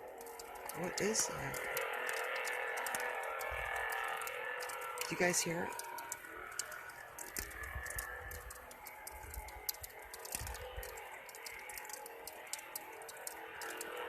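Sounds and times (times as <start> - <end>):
sharp high clicks: 0.0 - 14.0.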